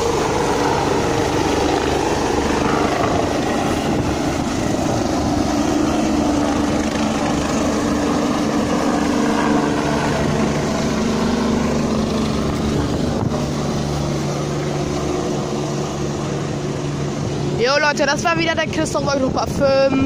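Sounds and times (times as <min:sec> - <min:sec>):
helicopter rotor and engine whine: 0:00.0 - 0:20.0.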